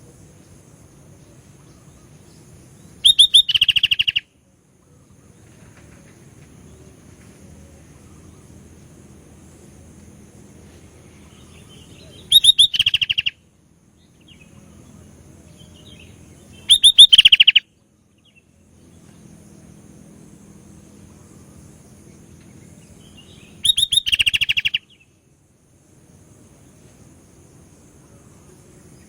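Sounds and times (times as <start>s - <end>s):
faint steady hum: 0.0s - 29.0s
bulbul singing: 0.2s - 25.4s.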